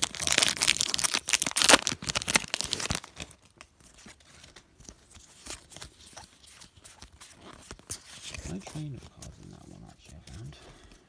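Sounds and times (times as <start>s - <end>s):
foil wrapper crinkling: 0.0s - 9.4s
cards rustling and ticking: 0.0s - 11.0s.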